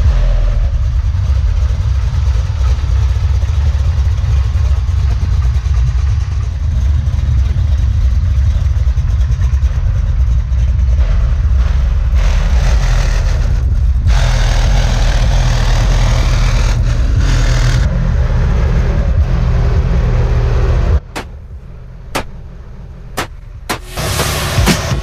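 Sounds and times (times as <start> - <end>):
car engine rumbling past: 0.0 - 25.0.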